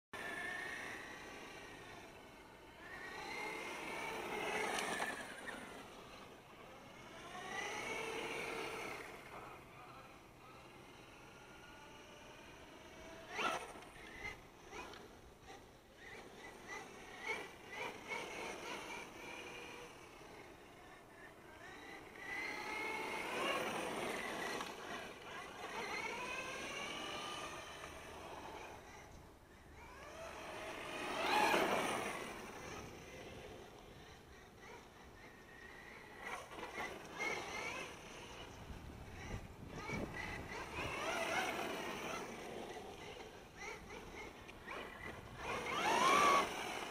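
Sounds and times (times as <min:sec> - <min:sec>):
rc truck motor whining past: 0:00.2 - 0:46.9.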